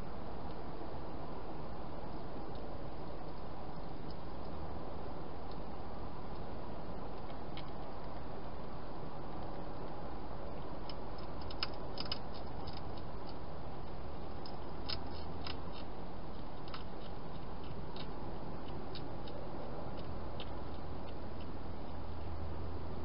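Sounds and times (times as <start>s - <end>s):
hedgehog chewing crunchy food: 2.1s - 22.8s.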